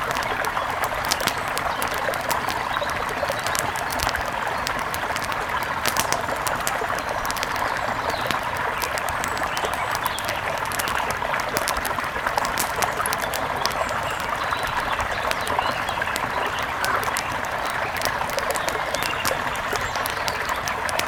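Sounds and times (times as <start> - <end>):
sharp clicks and pops: 0.0 - 21.0.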